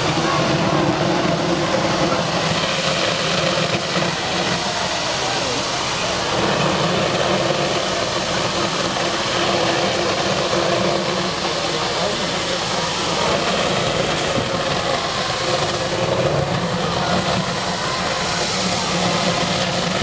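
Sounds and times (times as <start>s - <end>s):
crowd murmuring: 0.0s - 20.0s
rushing engine-like hum: 0.0s - 20.0s.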